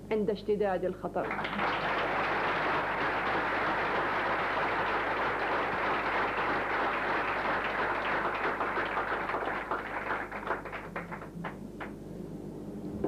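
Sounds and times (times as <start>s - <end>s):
audience applauding: 1.2s - 12.0s.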